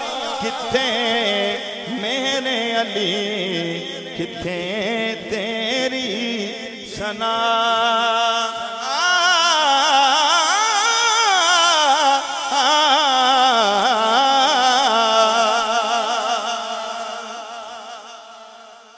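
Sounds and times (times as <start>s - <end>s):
man singing unaccompanied: 0.0s - 18.6s.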